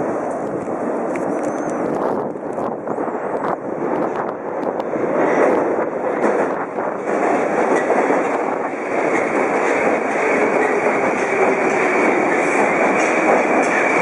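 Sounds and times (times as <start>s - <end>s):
train wheels rumbling and rattling: 0.0s - 14.0s.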